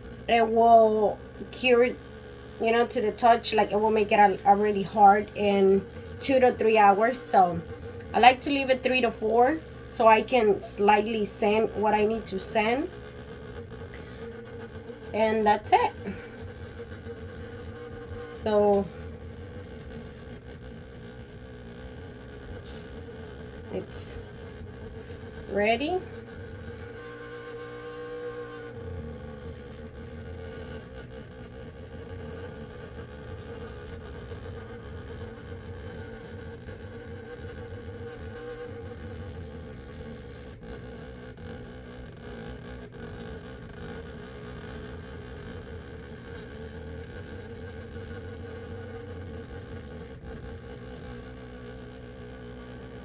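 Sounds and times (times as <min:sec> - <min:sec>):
small electric motor whirring: 0:00.0 - 0:53.0.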